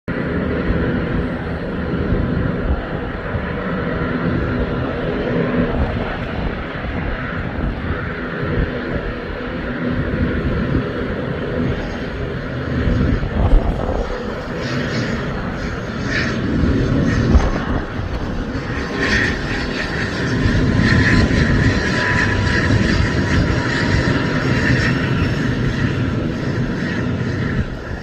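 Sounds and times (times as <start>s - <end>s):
high engine whine: 0.1s - 28.0s
turboprop engines droning: 0.1s - 28.0s.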